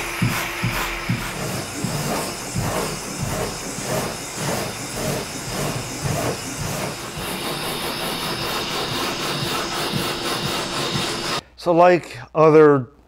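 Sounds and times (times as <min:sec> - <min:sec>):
sanding block rasping: 0:00.0 - 0:11.4
vacuum hiss: 0:00.0 - 0:11.4.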